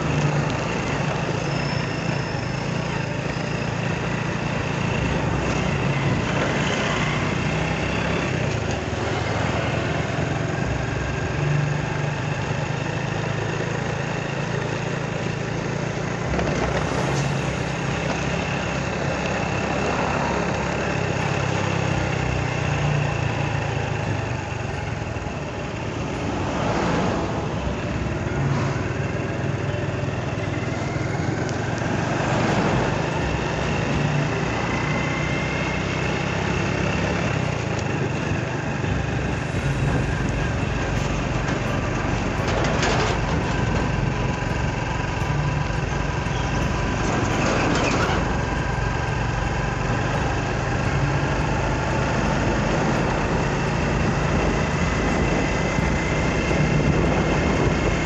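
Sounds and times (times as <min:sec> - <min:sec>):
passing traffic: 0:00.0 - 0:58.0
scooter engine humming: 0:00.0 - 0:58.0
wind and road noise: 0:00.0 - 0:58.0.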